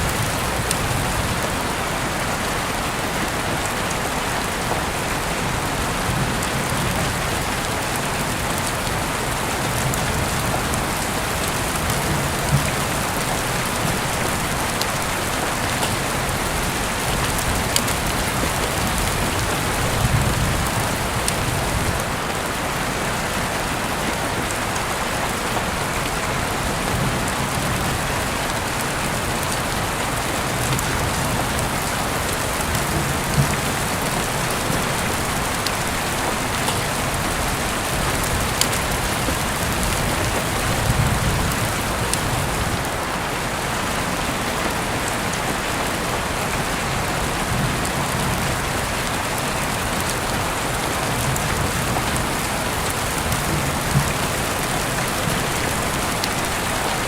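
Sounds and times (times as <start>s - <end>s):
raindrops ticking: 0.0s - 22.6s, 24.1s - 43.0s, 46.0s - 57.0s
steady rain hissing: 0.0s - 57.0s.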